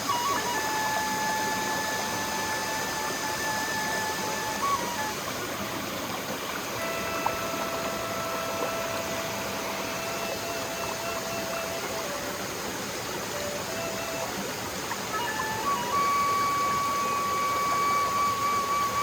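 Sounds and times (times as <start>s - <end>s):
bamboo flute long notes: 0.0s - 19.0s
mountain stream rushing: 0.0s - 19.0s.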